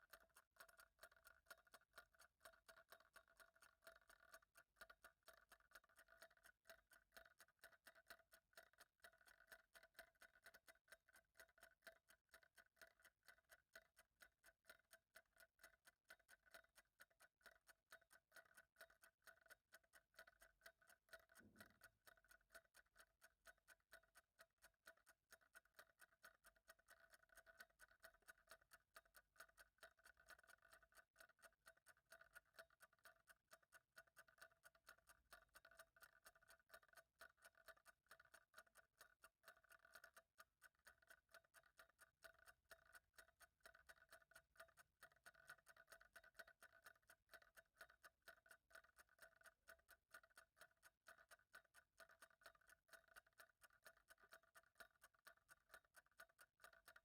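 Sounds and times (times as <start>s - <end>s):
clock ticking: 0.0s - 57.0s.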